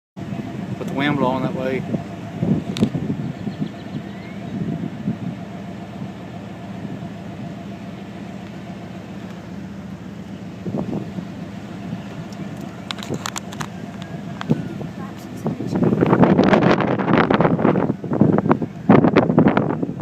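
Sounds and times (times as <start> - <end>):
low engine hum: 0.2 - 20.0.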